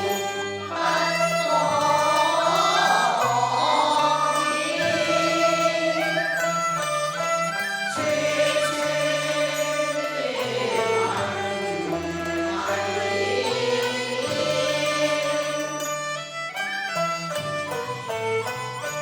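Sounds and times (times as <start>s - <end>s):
opera music wavering melody: 0.0s - 19.0s.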